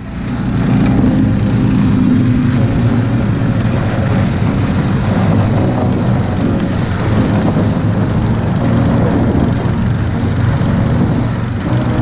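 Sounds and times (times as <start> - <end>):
small engine running under load: 0.0 - 12.0
wind and travel rushing: 0.0 - 12.0.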